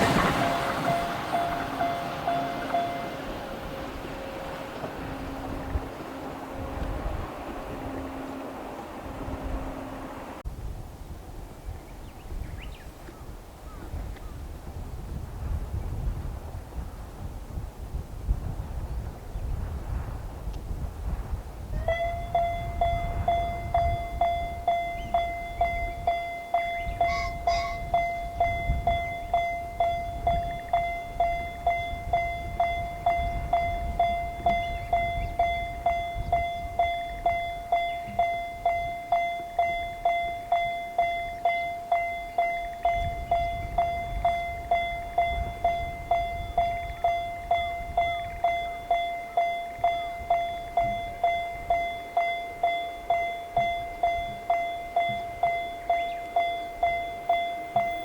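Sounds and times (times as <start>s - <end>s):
railroad crossing alarm ringing: 0.0s - 10.4s, 21.8s - 58.0s.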